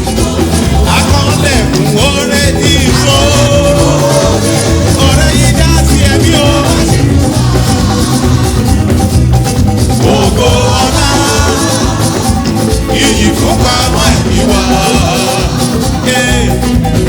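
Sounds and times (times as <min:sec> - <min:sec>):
choir singing with band: 0:00.0 - 0:17.0.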